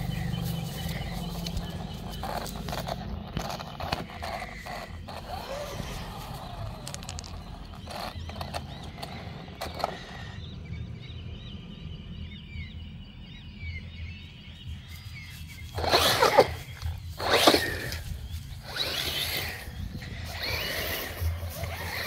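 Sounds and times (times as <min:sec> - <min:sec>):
outdoor rustling: 0:00.0 - 0:10.6, 0:13.5 - 0:22.0
small birds chirping: 0:00.0 - 0:22.0.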